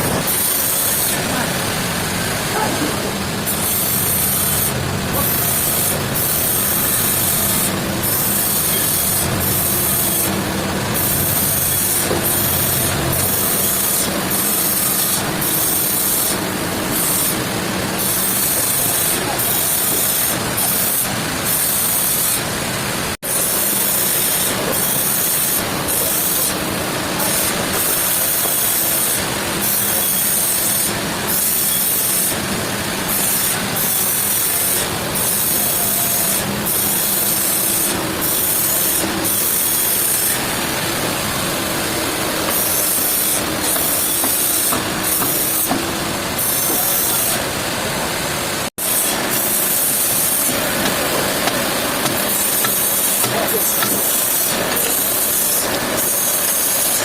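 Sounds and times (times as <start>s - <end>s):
sawmill machinery cutting log: 0.0s - 57.0s.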